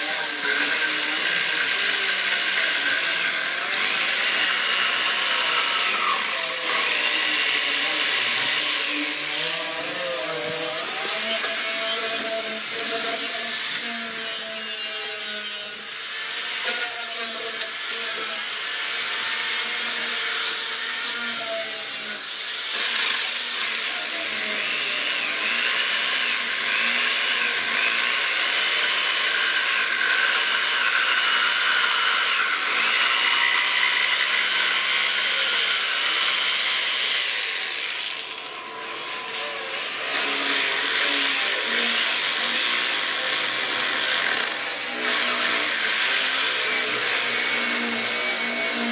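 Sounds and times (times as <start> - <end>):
electric jigsaw sawing wood: 0.0 - 48.9.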